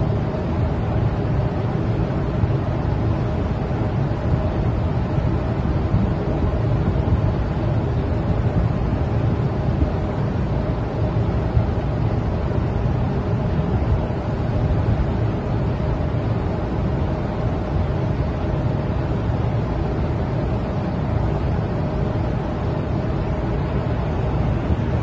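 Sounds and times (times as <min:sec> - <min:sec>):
faint steady hum: 0:00.0 - 0:25.0
ship low rumble: 0:00.0 - 0:25.0
wind noise: 0:00.0 - 0:25.0.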